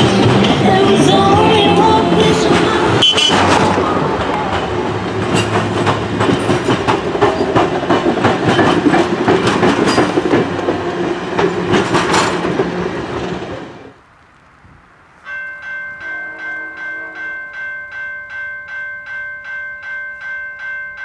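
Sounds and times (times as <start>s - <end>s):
wheels clacking over rail joints: 0.0s - 17.7s
train coaches rolling past: 0.0s - 21.0s.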